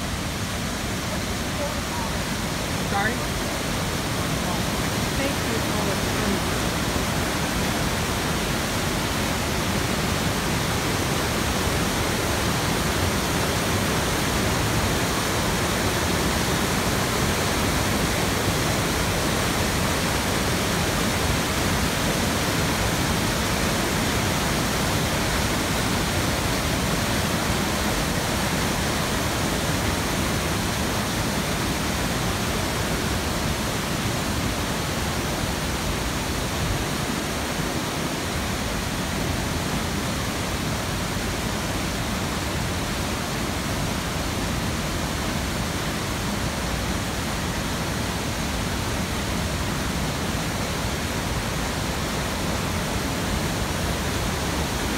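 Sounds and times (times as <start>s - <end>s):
water rushing over boulders: 0.0s - 54.9s.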